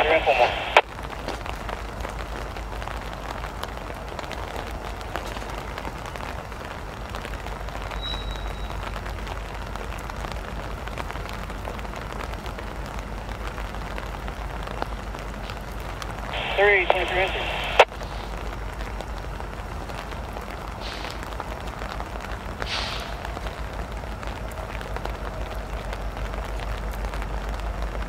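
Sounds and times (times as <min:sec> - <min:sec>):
steady rain patter: 0:00.0 - 0:28.0.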